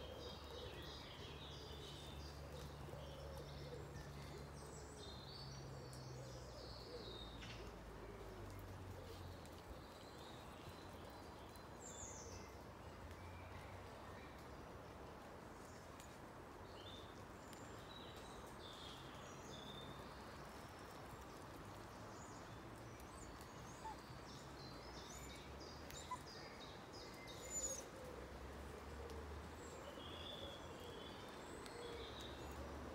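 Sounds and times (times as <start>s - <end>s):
woodland birds chirping: 0.0s - 14.6s, 15.6s - 32.9s.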